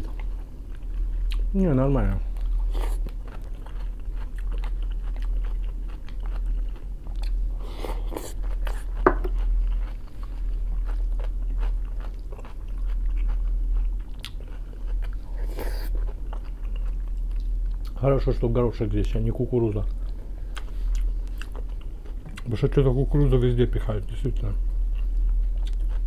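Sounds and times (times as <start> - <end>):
person chewing crunchy salad: 0.0 - 1.6, 2.2 - 18.0, 19.8 - 22.5, 24.7 - 26.0
steady low hum: 0.0 - 26.0.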